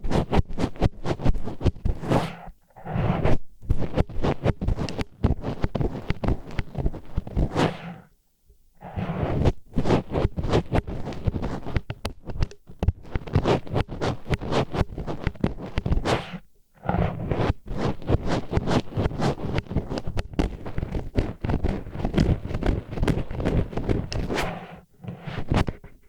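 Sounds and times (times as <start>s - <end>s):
wooden chopsticks scratching: 0.0s - 8.1s, 8.8s - 26.0s.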